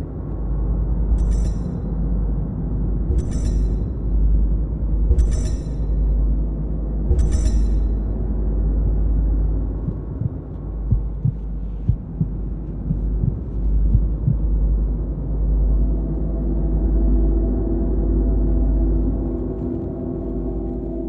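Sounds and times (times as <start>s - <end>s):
deep steady rumble: 0.0s - 21.0s
held low tones: 1.0s - 21.0s.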